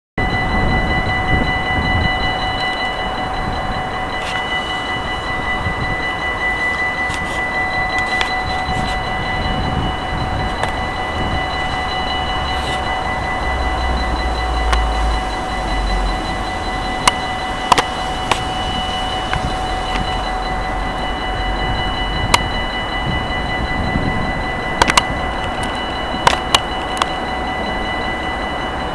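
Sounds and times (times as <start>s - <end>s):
level crossing warning bell ringing: 0.2s - 28.9s.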